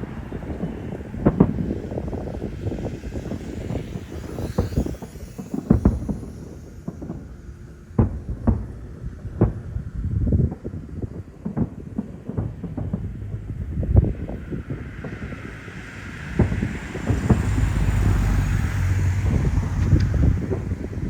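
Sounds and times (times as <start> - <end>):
continuous low rumble: 0.0 - 21.0
fireworks booming: 0.0 - 21.0.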